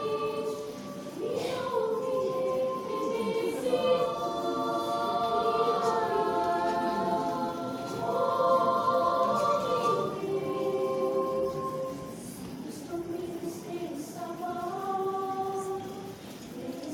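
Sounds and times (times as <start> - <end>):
children's choir singing: 0.0 - 16.9.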